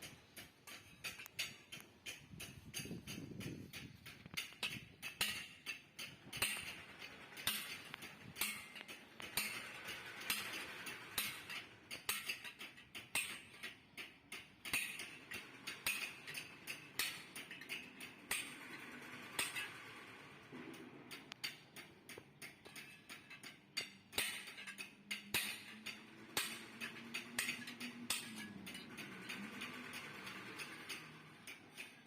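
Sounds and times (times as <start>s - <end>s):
metallic taps and clinks: 0.0s - 32.0s.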